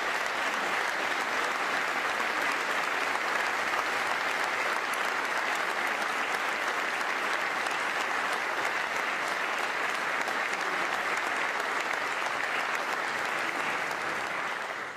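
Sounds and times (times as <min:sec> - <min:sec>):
large audience applauding: 0:00.0 - 0:14.9.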